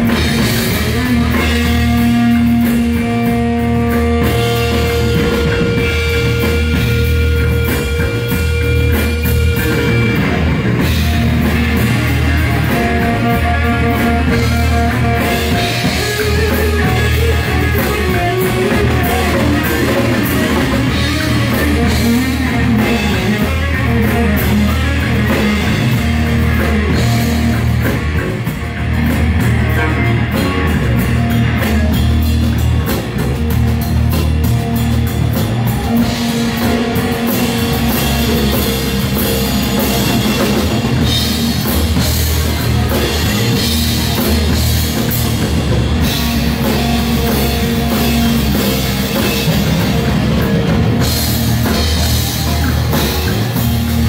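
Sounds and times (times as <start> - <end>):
bass guitar: 0.0 - 54.0
drums: 0.0 - 54.0
lead electric guitar: 0.0 - 54.0.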